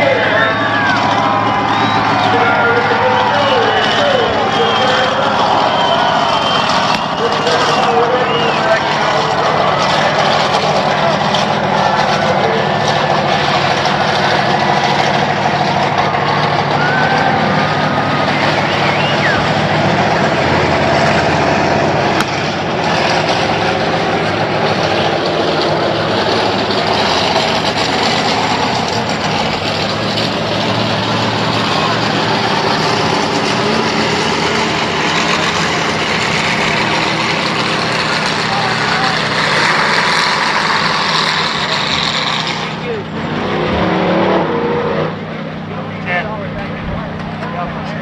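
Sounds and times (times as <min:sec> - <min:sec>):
truck engine rumbling: 0:00.0 - 0:48.0.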